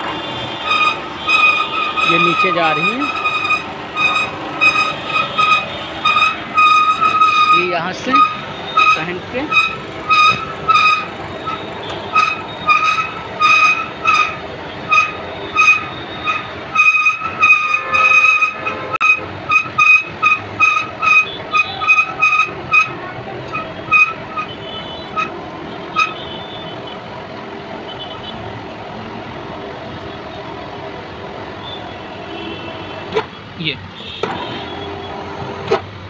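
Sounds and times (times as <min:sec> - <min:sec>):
hoist motor running: 0:00.0 - 0:27.9, 0:34.2 - 0:36.0.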